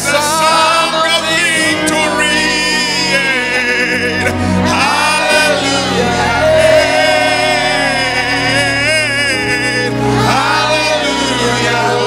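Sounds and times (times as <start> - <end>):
gospel singing: 0.0 - 12.0
instrumental accompaniment: 0.0 - 12.0.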